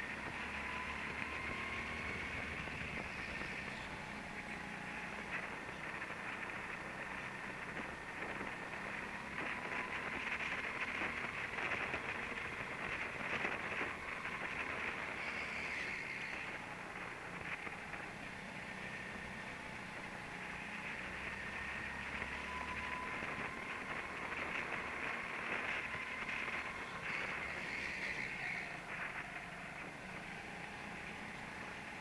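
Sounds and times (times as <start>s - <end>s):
go-kart engine drone: 0.0s - 32.0s.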